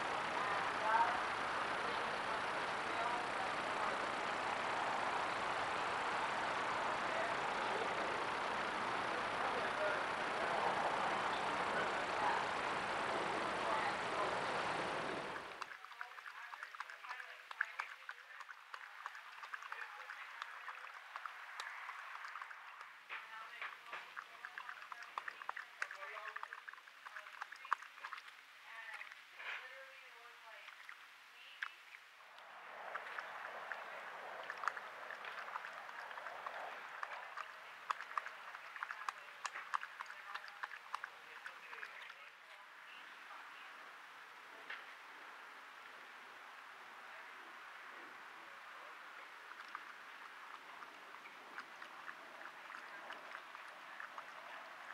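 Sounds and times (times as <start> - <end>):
coyote lapping water: 0.0 - 54.9.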